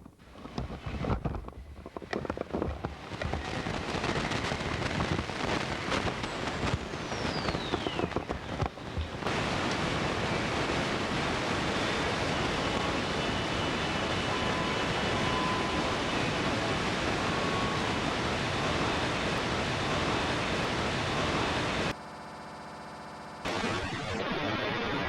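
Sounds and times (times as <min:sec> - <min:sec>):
steady rushing noise: 0:00.0 - 0:22.0
steady hum: 0:00.0 - 0:25.0.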